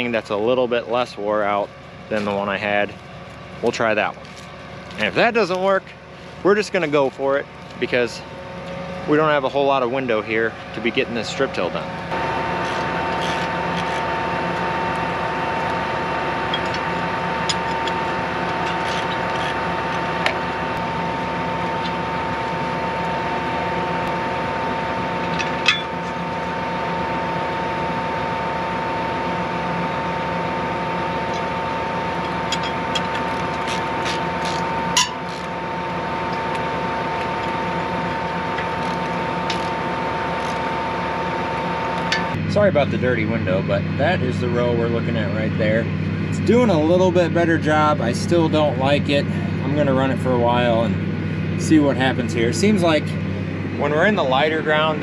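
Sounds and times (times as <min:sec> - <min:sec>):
tractor idling: 0:00.0 - 0:55.0.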